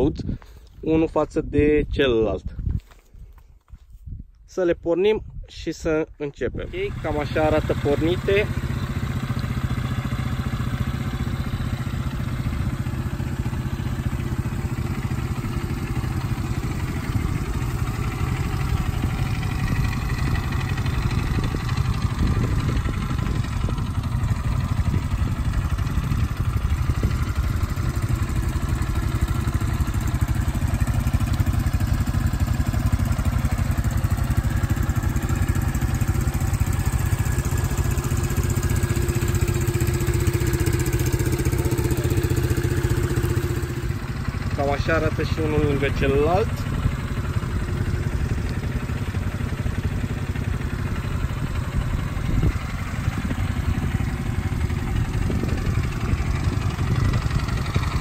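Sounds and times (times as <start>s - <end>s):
quad engines idling: 6.6s - 58.0s.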